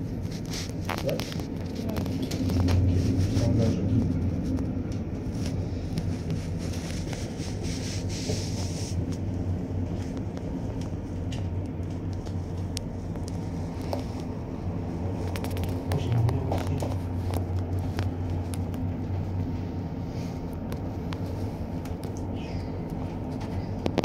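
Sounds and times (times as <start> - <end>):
cable car rumble and hum: 0.0 - 24.0.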